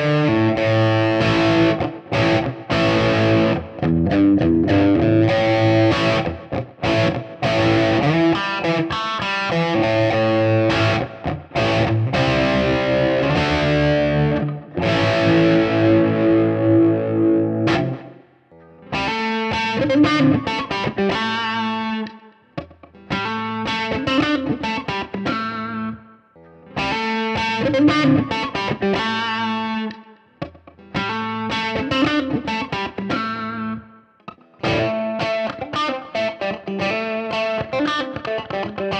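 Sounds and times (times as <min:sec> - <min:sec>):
electric guitar lead phrase: 0:00.0 - 0:22.2, 0:23.0 - 0:26.1, 0:26.7 - 0:30.1, 0:30.8 - 0:38.9
distorted electric guitar riff: 0:00.0 - 0:38.9.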